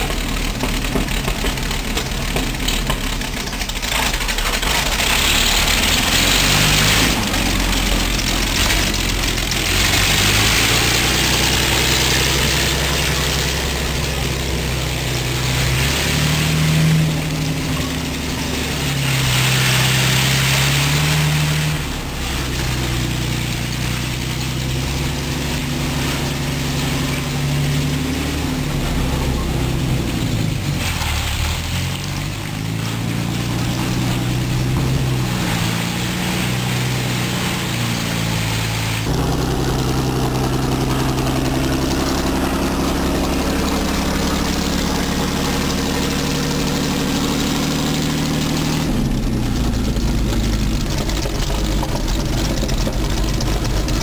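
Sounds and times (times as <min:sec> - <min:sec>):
tank engine running: 0:00.0 - 0:54.0.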